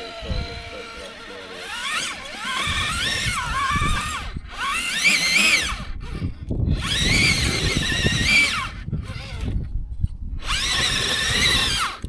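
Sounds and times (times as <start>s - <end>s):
electric motor and drivetrain whining: 0.0s - 12.0s.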